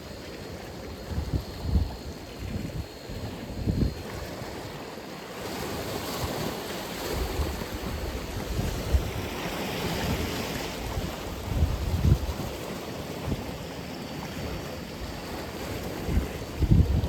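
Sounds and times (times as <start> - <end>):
waves breaking: 0.0 - 17.0
wind buffeting microphone: 0.9 - 4.7, 6.2 - 13.6, 14.2 - 17.0.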